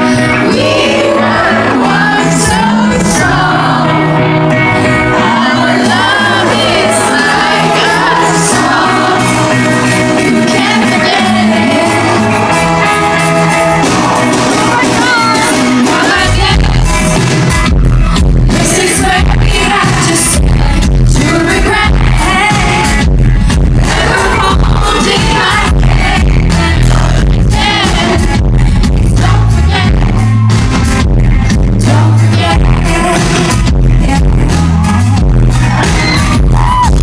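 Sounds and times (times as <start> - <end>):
woman singing lead vocal: 0.0 - 12.6, 14.5 - 17.4, 18.0 - 30.4, 31.5 - 37.0
live pop band playing: 0.0 - 37.0.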